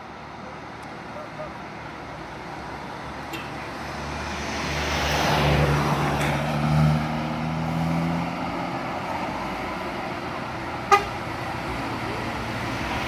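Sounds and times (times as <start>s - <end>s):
bus diesel engine labouring: 0.0s - 13.0s.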